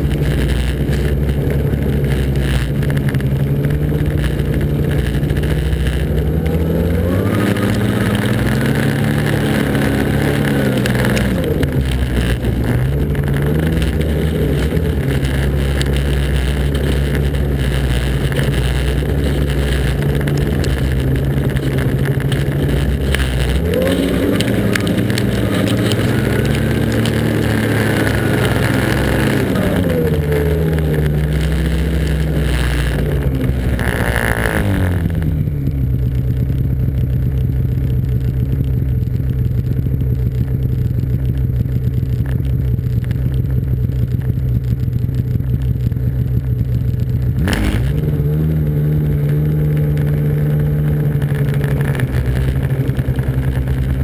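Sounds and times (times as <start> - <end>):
snowmobile engine running hard: 0.0 - 54.0.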